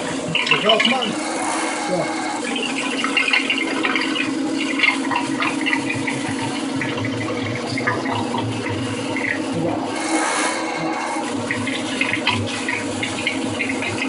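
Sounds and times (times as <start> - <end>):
water rushing through drain pipe: 0.0 - 14.0.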